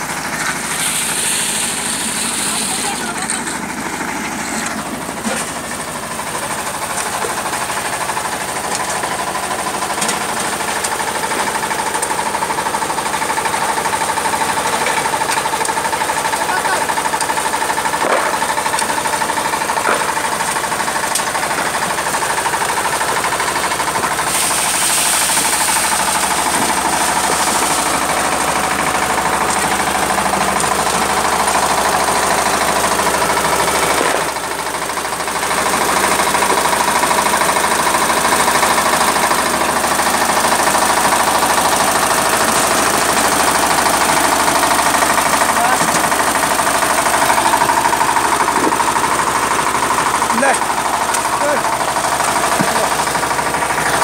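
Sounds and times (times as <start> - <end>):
coal crusher rattling and knocking: 0.0 - 54.0.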